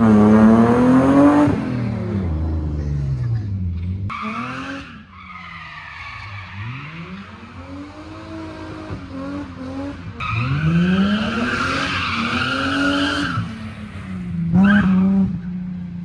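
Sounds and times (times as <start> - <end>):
car engine revving: 0.0 - 5.1, 6.3 - 15.6.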